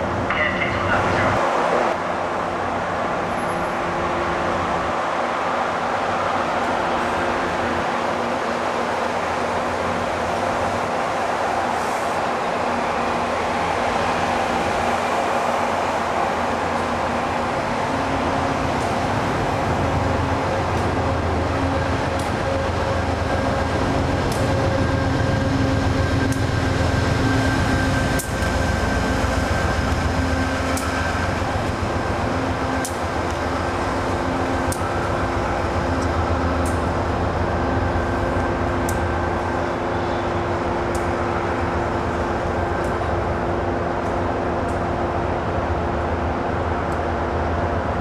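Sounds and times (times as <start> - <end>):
diesel locomotive engine hum: 0.0 - 48.0
train rail rumble: 0.0 - 48.0.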